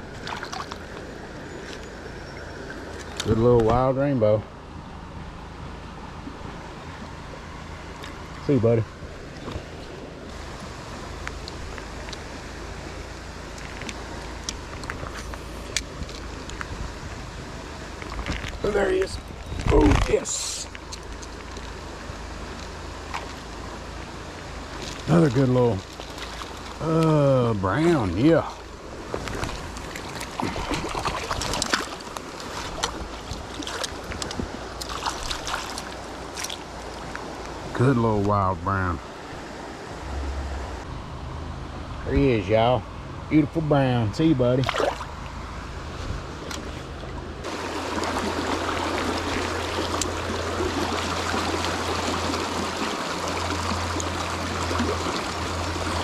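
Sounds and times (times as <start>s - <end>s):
water splashing and sloshing: 0.0s - 42.4s, 44.2s - 56.0s
river rushing: 4.5s - 42.6s, 44.6s - 56.0s.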